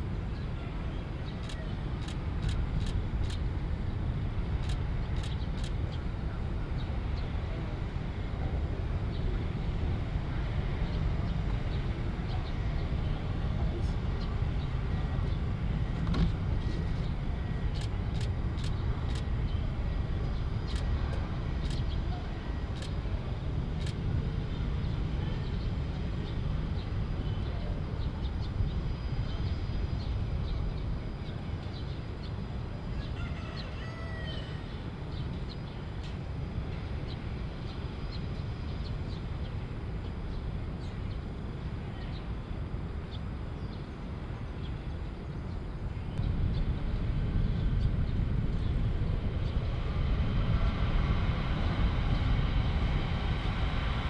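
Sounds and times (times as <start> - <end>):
jet airliner taxiing: 0.0 - 54.0.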